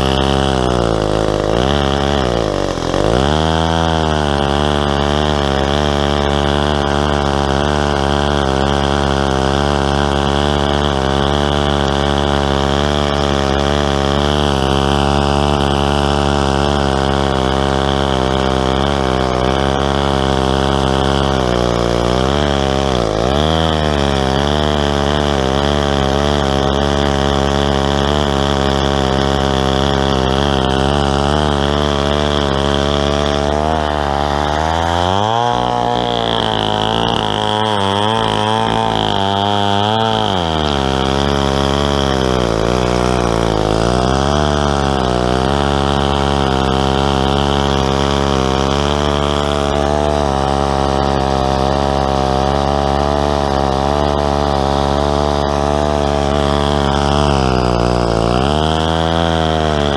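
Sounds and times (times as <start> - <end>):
chainsaw cutting log at full throttle: 0.0 - 59.9.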